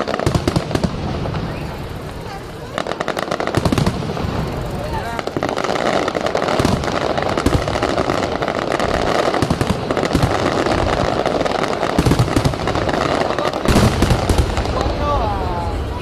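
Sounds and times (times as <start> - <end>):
fireworks crackling and popping: 0.0 - 16.0
heavy firework bangs: 0.0 - 16.0.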